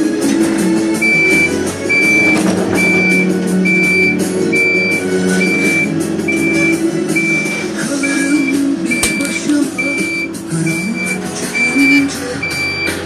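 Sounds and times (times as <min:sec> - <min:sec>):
diesel engine running: 0:00.0 - 0:13.0
reversing alarm beeping: 0:01.0 - 0:13.0.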